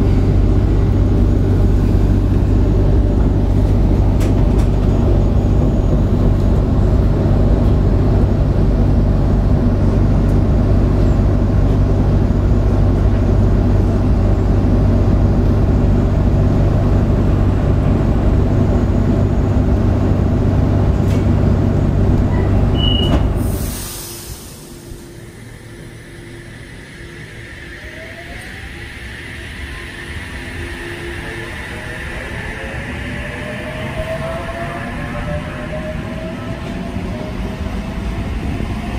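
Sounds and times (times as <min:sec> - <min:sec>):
train rumble from inside carriage: 0:00.0 - 0:38.9.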